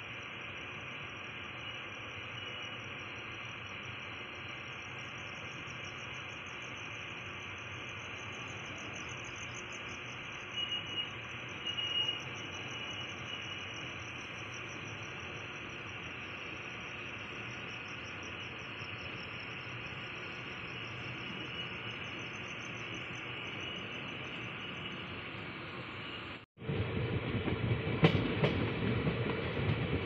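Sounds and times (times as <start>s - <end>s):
crickets trilling: 0.0s - 26.2s
slow-moving train running: 0.0s - 30.0s.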